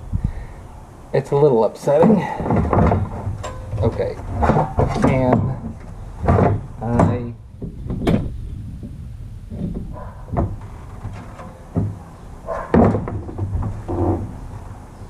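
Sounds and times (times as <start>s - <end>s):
radiator clunking and knocking: 1.9s - 14.7s.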